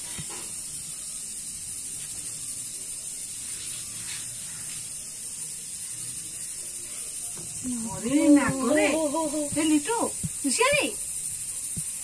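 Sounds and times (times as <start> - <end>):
high-pitched hiss: 0.0 - 12.0.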